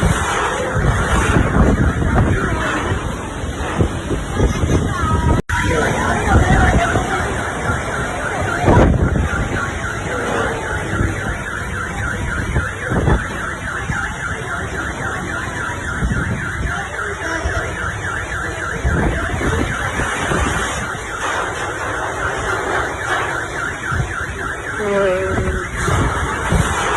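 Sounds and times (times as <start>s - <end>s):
car alarm: 0.0s - 2.8s, 5.5s - 26.9s
heavy wind and rain: 0.0s - 26.9s.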